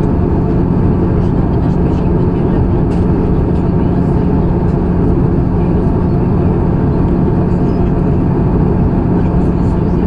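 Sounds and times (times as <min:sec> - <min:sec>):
airplane cabin engine rumble: 0:00.0 - 0:10.0
constant low hum: 0:00.0 - 0:10.0.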